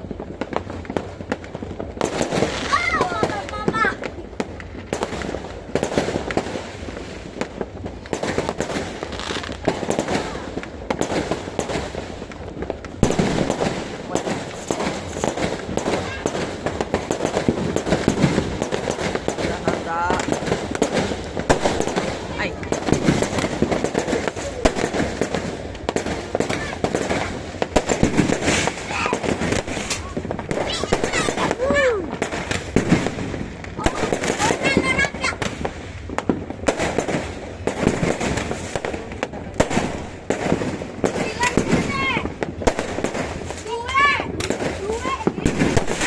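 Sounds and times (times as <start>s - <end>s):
fireworks bangs and pops: 0.0s - 46.0s
fireworks crackling: 0.0s - 46.0s.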